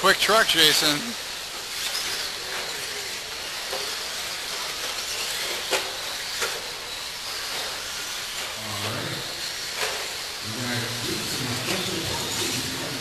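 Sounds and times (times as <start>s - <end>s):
hiss of rc truck motors and tyres: 0.5s - 13.0s.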